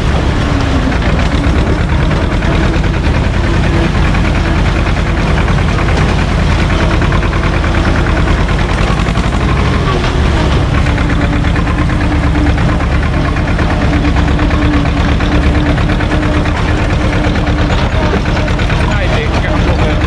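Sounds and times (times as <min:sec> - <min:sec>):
tractor diesel engine chugging: 0:00.0 - 0:20.0.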